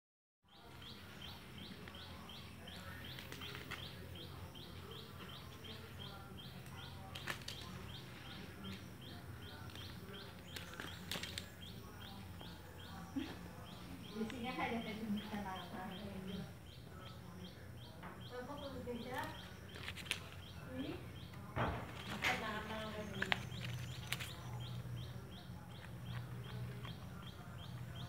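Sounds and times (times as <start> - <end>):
bird chirping: 0.5 - 28.0.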